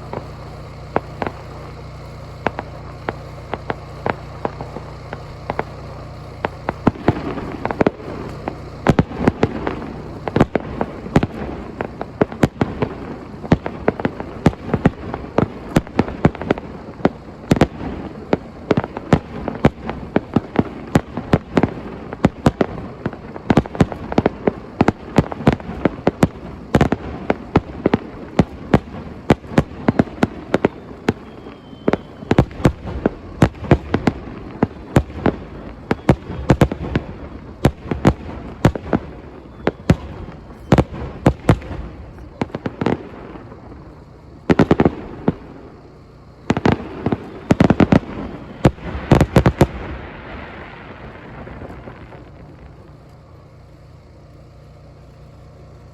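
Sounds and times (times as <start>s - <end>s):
fireworks bangs and pops: 0.0s - 55.9s.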